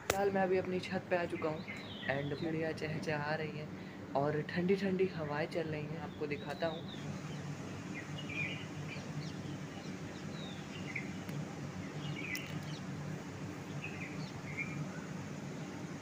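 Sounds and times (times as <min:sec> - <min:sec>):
steady low hum: 0:00.0 - 0:16.0
birds chirping: 0:00.5 - 0:04.0, 0:04.6 - 0:16.0.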